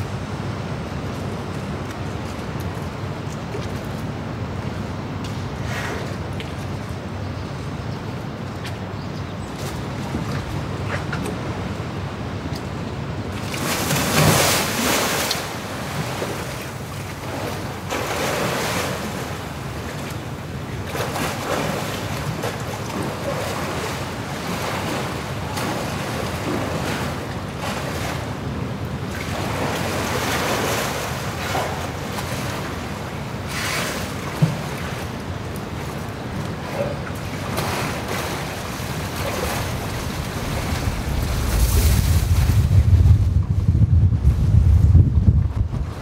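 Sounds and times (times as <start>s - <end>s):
water splashing and sloshing: 0.0s - 7.2s, 8.1s - 46.0s.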